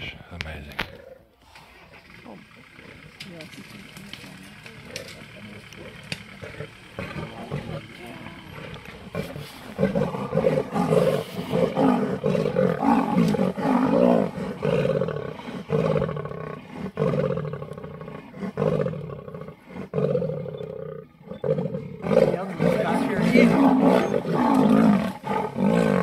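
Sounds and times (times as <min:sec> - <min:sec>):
big cats growling and snarling: 0:00.7 - 0:26.0.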